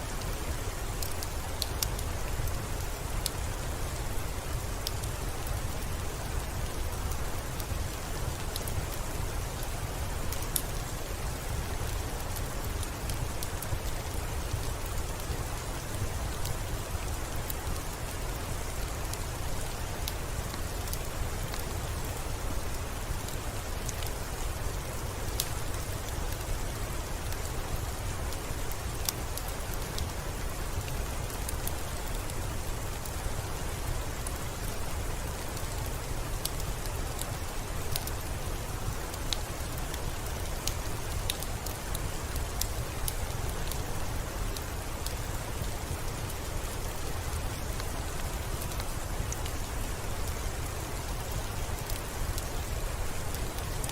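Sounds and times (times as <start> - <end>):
steady rain: 0.0 - 53.9
sharp raindrop ticks: 0.1 - 53.9.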